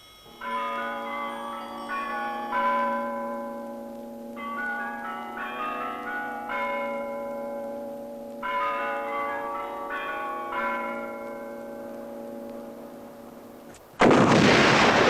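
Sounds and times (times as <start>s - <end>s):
church bells ringing: 0.0s - 13.7s.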